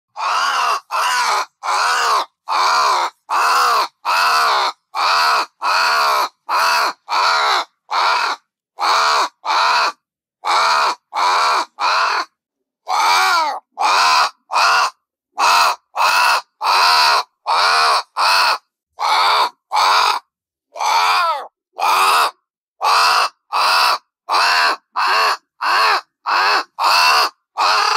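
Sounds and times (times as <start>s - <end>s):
crow cawing: 0.2s - 20.2s, 20.8s - 27.9s.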